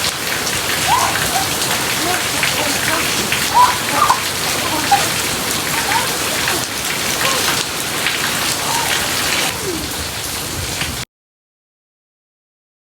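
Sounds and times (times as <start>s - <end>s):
heavy rain pouring: 0.0s - 11.1s.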